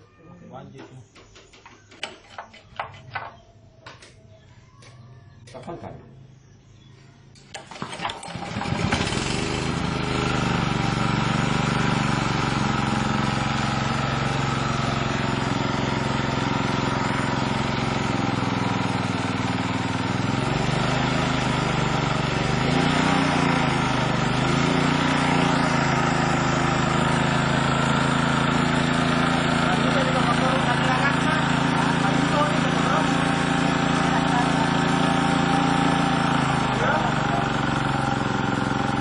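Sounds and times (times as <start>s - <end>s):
small engine starting and running: 7.4s - 39.0s.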